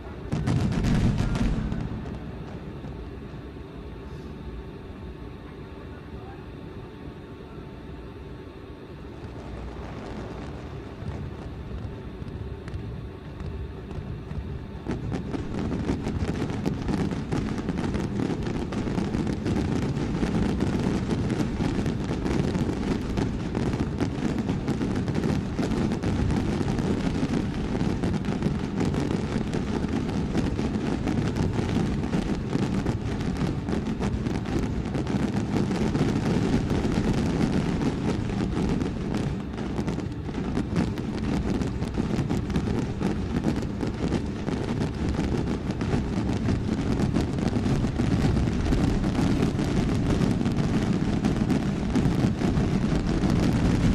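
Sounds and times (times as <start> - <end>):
fireworks crackling barrage: 0.0 - 6.7, 8.4 - 53.9.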